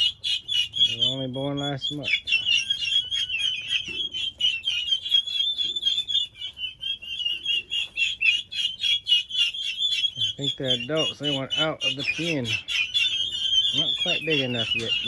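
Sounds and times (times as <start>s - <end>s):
turkey poults peeping: 0.0s - 15.0s.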